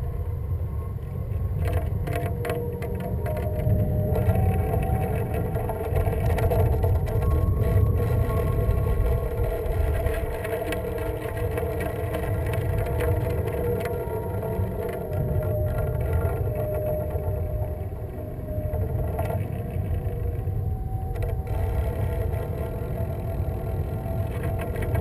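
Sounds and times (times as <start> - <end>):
wind rumbling over camera: 0.0 - 25.0.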